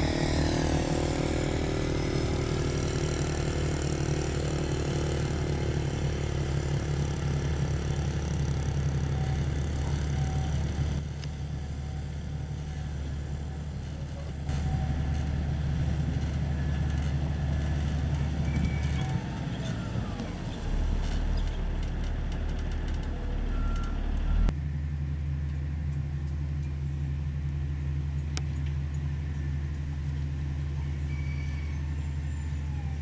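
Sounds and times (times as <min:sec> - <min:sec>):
motor grader diesel engine running: 0:00.0 - 0:33.0.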